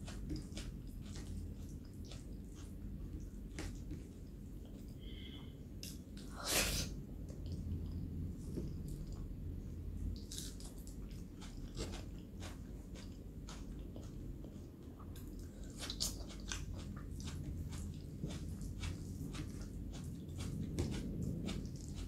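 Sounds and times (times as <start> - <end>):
person chewing food: 0.0 - 6.3, 7.2 - 22.0
steady low hum: 0.0 - 22.0.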